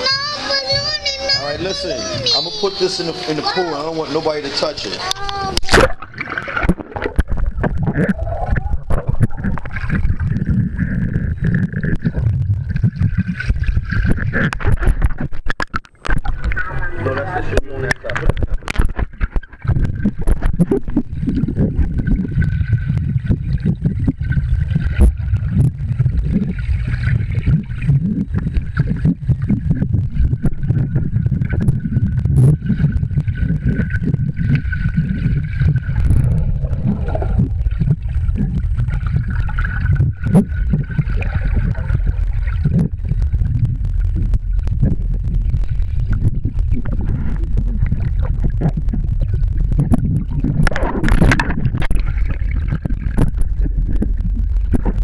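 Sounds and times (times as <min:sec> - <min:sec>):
underwater low rumble: 0:00.0 - 0:55.0
faint steady whine: 0:04.3 - 0:55.0.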